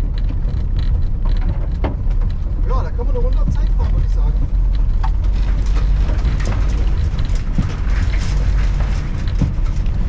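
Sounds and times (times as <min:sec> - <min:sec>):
body and hitch rattling: 0:00.0 - 0:10.0
car engine rumbling: 0:00.0 - 0:10.0.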